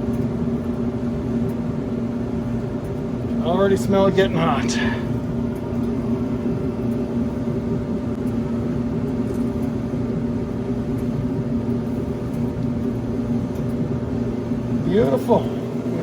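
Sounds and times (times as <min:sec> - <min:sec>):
dryer motor and drum hum: 0:00.0 - 0:16.0.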